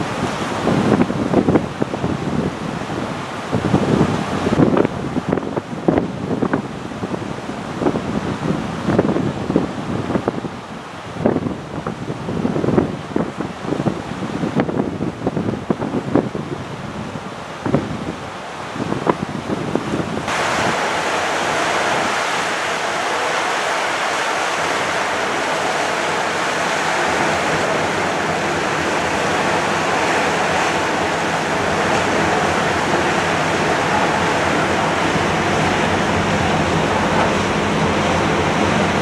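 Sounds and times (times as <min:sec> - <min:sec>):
sea water rushing: 0:00.0 - 0:39.0
wind rushing: 0:00.0 - 0:39.0.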